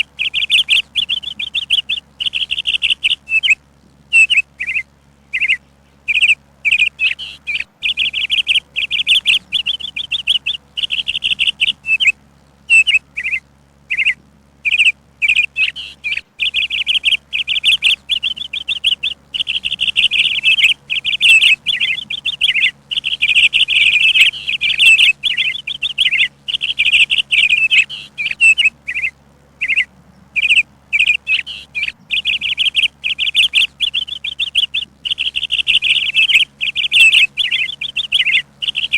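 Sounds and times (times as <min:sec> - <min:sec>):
songbird chirping in rapid trills: 0:00.0 - 0:38.9.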